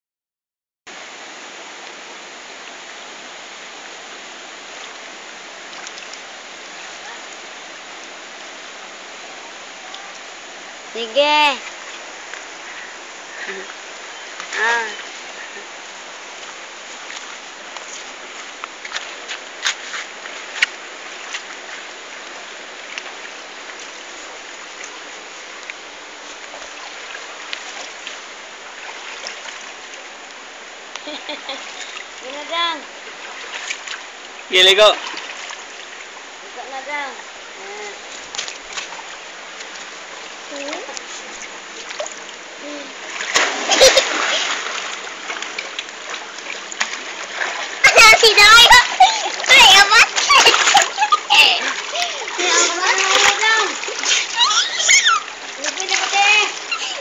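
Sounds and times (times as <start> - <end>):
river water splashing over rocks: 0.9 - 57.0.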